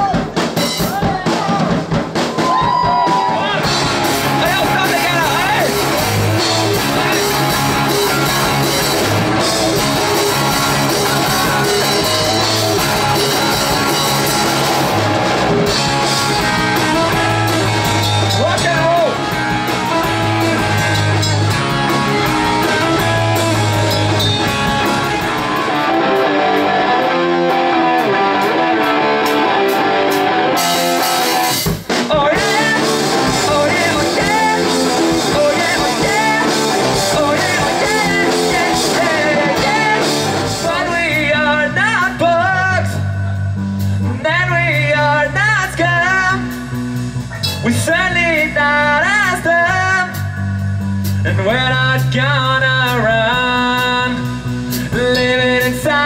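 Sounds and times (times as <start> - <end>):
drum kit: 0.0 - 56.0
electric guitar: 2.1 - 56.0
person singing: 2.4 - 31.1, 32.0 - 43.4, 51.2 - 56.0.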